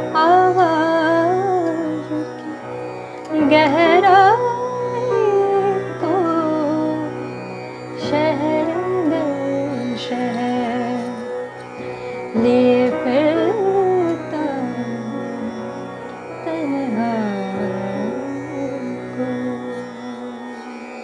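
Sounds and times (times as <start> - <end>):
woman singing: 0.0 - 2.5, 3.3 - 7.2, 8.0 - 11.3, 12.3 - 15.7, 16.4 - 20.6
instrumental drone: 0.0 - 21.0.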